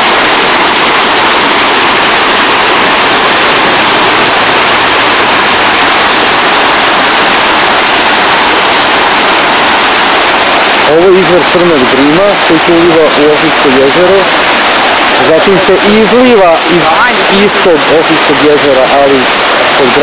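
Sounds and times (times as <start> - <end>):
river water rushing over stones: 0.0 - 20.0.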